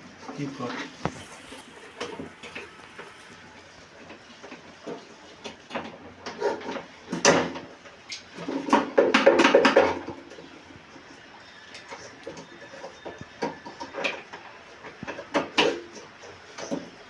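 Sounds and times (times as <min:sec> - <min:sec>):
knocks and clatter of plumbing work: 0:00.0 - 0:17.0.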